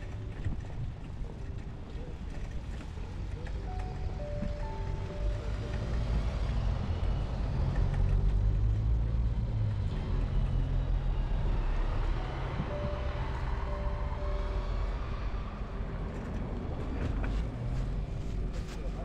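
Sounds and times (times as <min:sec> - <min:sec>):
bus engine rumbling past: 0:00.0 - 0:19.0
traffic: 0:00.0 - 0:19.0.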